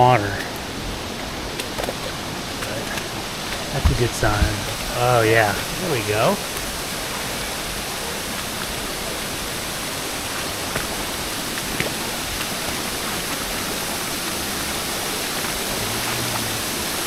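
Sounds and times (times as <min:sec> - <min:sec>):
creek water rushing over cascades: 0:00.0 - 0:17.0.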